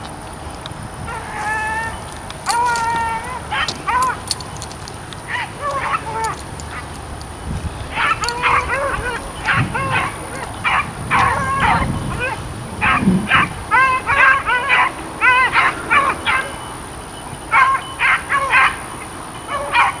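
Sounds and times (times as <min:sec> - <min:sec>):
dogs baying with high yelps: 0:01.0 - 0:20.0.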